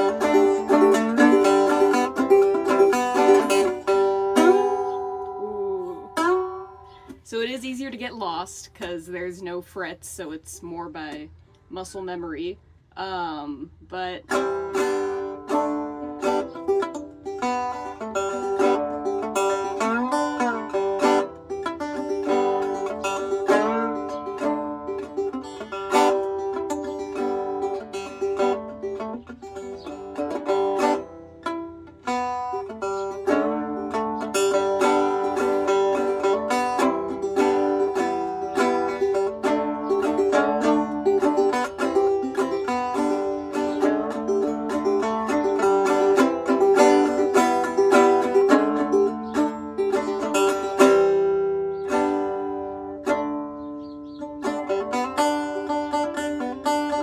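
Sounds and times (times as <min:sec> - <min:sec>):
steady ringing banjo note: 0:00.0 - 0:07.7, 0:14.3 - 0:57.0
plucked banjo melody: 0:00.0 - 0:09.9, 0:14.0 - 0:57.0.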